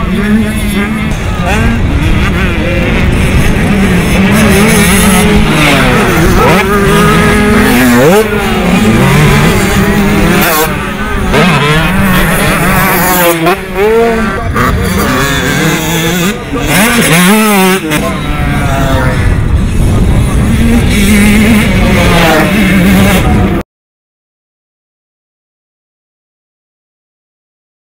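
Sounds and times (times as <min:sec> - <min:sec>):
motocross bikes revving: 0:00.0 - 0:23.6.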